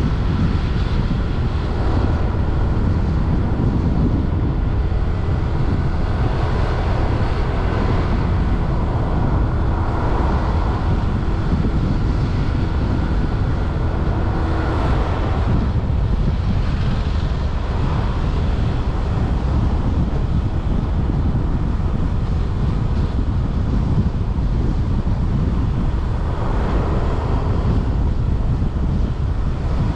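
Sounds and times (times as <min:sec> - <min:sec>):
motorbike engine hum: 0:00.0 - 0:29.9
road noise: 0:00.0 - 0:29.9
wind on microphone: 0:00.0 - 0:29.9.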